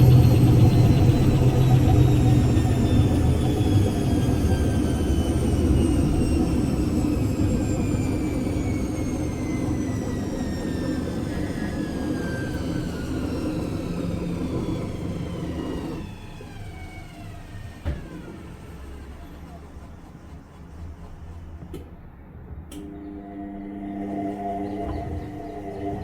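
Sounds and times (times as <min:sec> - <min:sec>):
washing machine motor whine: 0:00.0 - 0:26.0.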